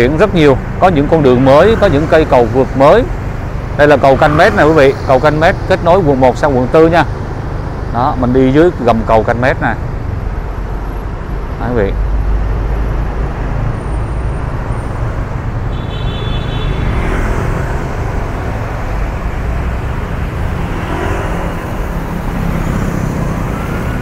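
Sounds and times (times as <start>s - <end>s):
city traffic rumble: 0.0s - 24.0s.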